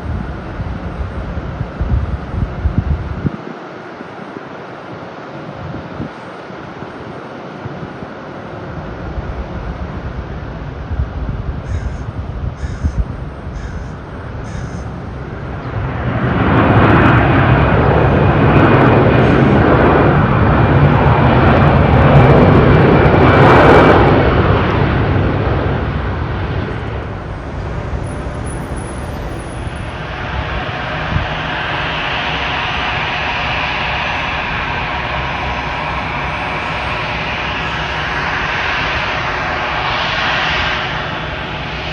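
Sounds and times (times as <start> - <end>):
jet engines rushing past: 0.0 - 41.9.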